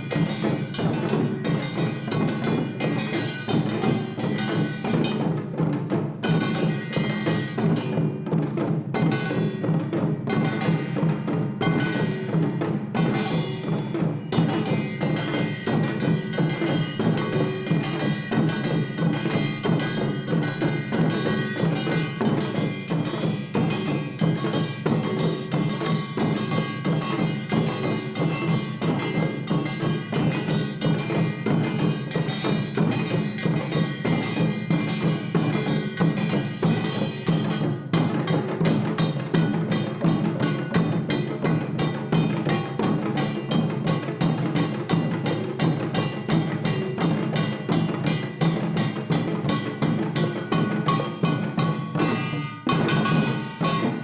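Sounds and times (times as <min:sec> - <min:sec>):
hourglass drums struck fast: 0:00.0 - 0:54.0.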